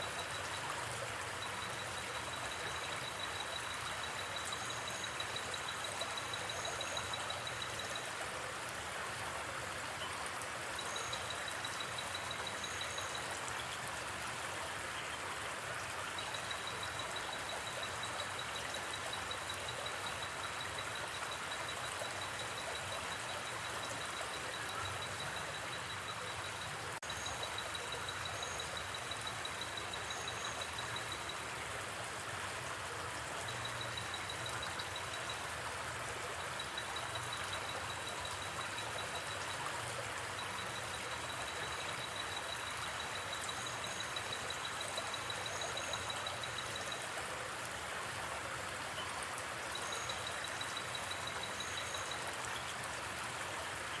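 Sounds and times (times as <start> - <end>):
flowing river: 0.0 - 54.0.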